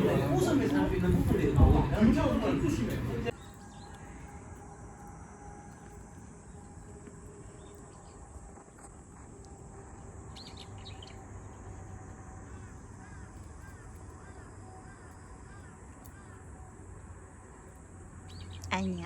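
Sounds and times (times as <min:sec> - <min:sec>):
birds chirping: 0:00.0 - 0:08.5, 0:09.9 - 0:19.0
background ambience: 0:00.0 - 0:19.0.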